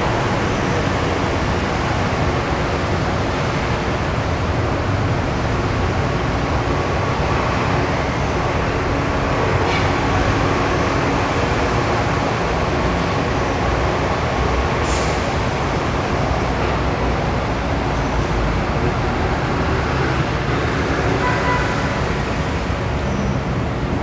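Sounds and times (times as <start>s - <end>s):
monorail train running past: 0.0s - 24.0s.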